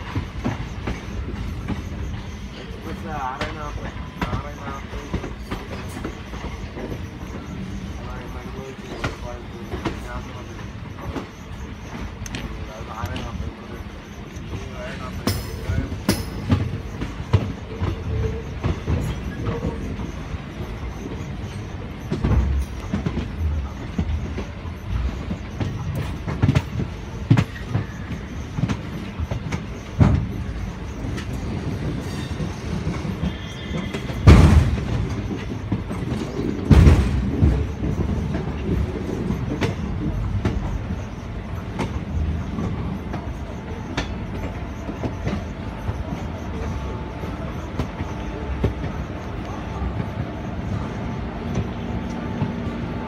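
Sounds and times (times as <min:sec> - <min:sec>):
train wheels rumbling on track: 0:00.0 - 0:53.0.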